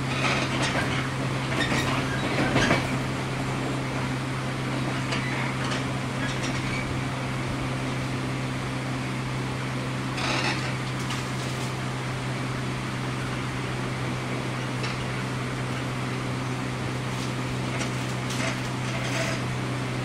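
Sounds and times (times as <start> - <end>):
train car hum: 0.0 - 20.0.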